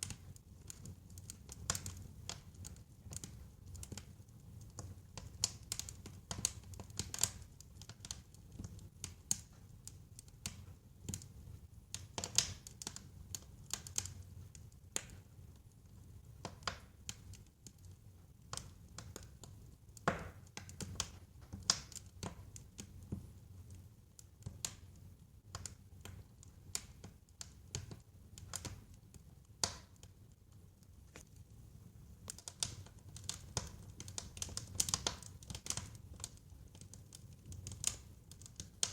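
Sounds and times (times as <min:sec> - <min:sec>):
low rumble of burning: 0:00.0 - 0:38.9
wood fire crackling and popping: 0:00.0 - 0:38.9.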